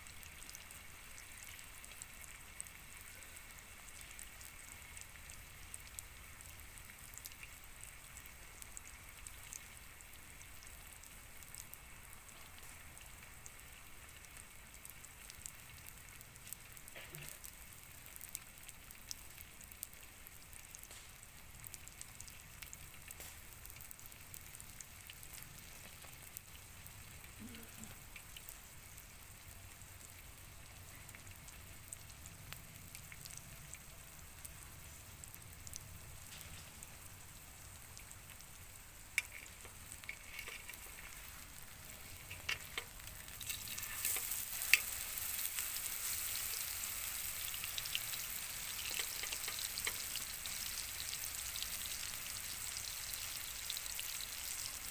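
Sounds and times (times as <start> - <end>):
food frying and sizzling: 0.0 - 54.9.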